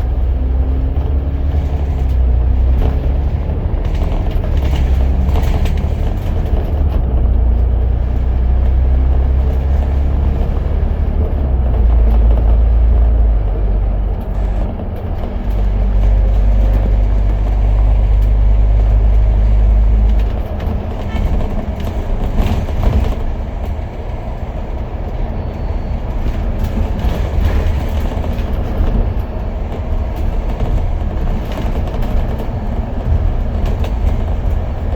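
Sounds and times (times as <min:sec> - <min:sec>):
bus engine rumble: 0:00.0 - 0:34.9
heavy low drone: 0:00.0 - 0:34.9.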